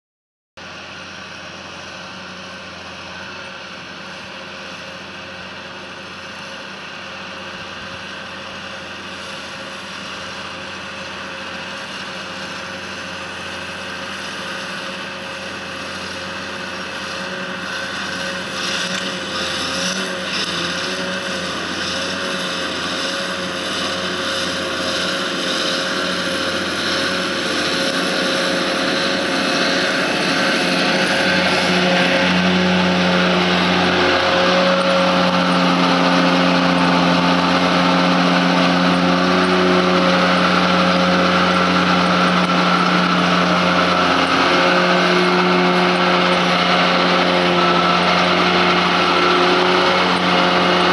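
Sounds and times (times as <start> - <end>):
mower whine: 0.6 - 50.9
tractor engine running: 0.6 - 50.9.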